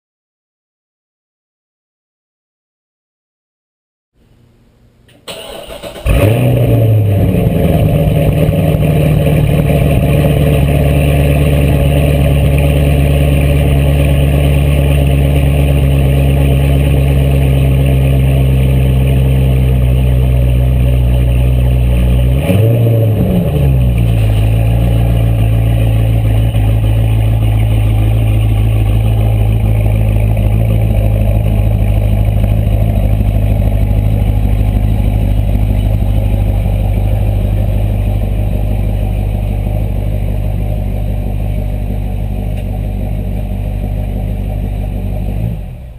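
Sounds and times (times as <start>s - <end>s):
car engine starting and idling: 5.1s - 45.9s.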